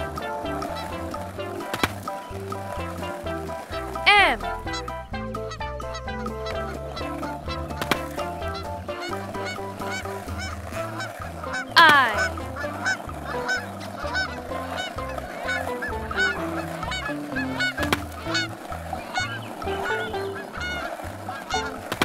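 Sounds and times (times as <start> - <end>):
music with stepping bass line: 0.0 - 22.0
honking bird calls: 0.1 - 22.0.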